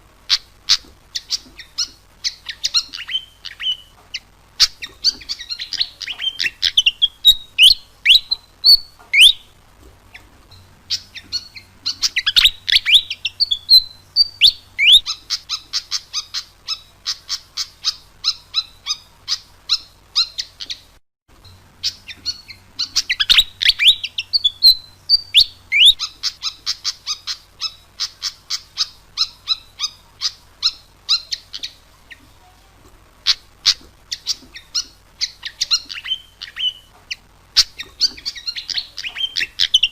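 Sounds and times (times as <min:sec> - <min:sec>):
bird whistling and chirping: 0:00.3 - 0:10.2, 0:10.9 - 0:20.9, 0:21.8 - 0:32.2, 0:33.3 - 0:39.9.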